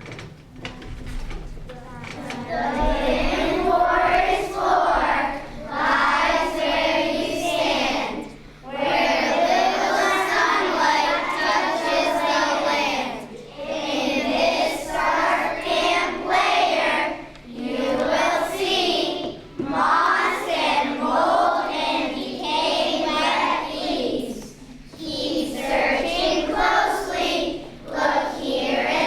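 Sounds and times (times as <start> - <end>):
children singing in unison: 2.2 - 29.0.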